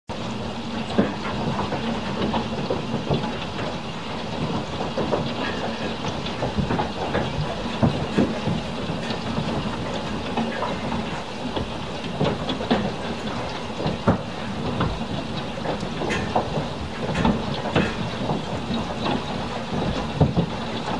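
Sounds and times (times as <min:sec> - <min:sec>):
hailstones knocking: 0:00.1 - 0:20.9
heavy rain: 0:00.1 - 0:20.9.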